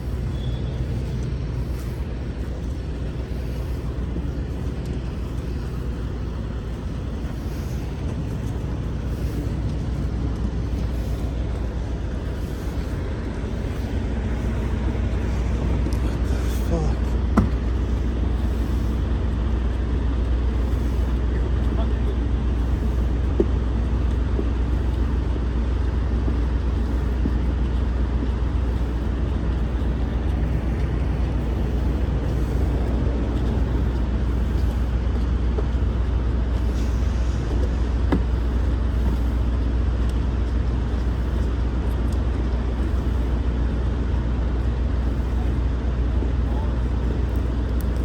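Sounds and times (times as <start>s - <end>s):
truck diesel engine idling: 0.0s - 48.0s.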